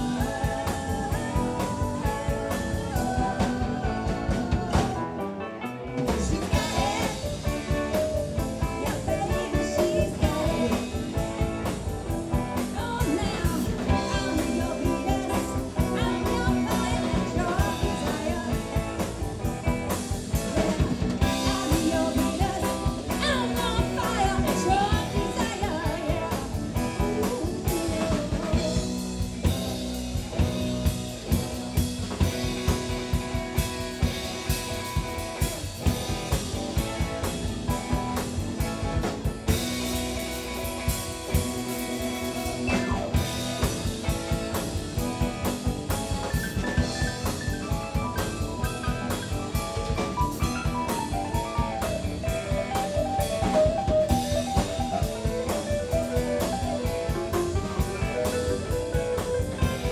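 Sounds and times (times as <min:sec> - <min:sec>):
drum kit beat: 0:00.0 - 0:05.2, 0:06.0 - 0:59.9
electric bass: 0:00.0 - 0:59.9
electric guitar: 0:00.0 - 0:59.9
keyboard: 0:00.0 - 0:59.9.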